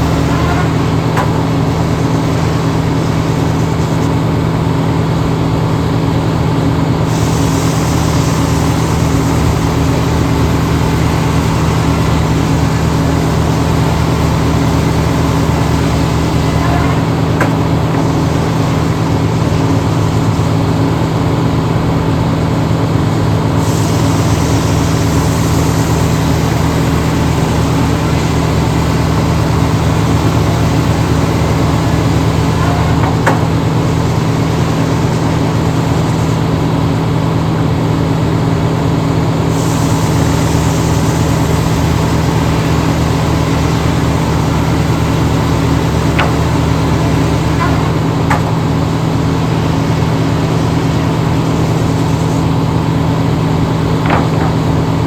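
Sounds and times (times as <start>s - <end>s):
large engine running: 0.0s - 55.0s.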